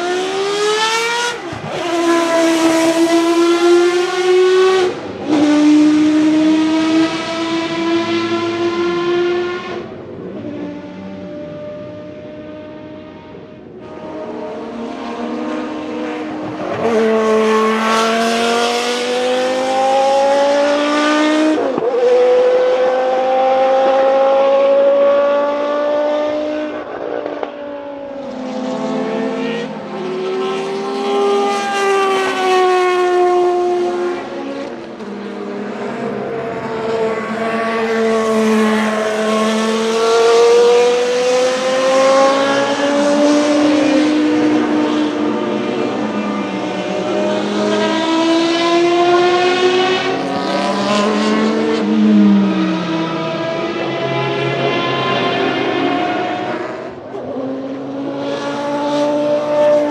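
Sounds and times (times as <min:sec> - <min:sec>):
race car engines at full throttle: 0:00.0 - 0:59.9.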